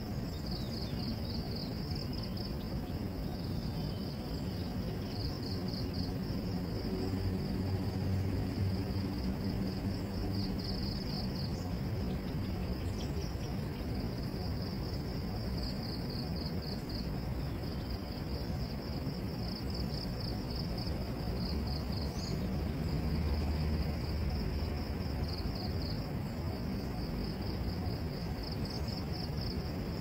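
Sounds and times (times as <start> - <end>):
insects trilling: 0.0 - 30.0
low background rumble: 0.0 - 30.0.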